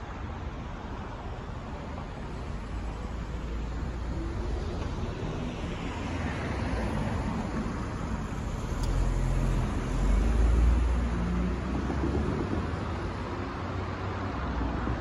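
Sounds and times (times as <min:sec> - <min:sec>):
cars driving past: 0:02.1 - 0:15.0.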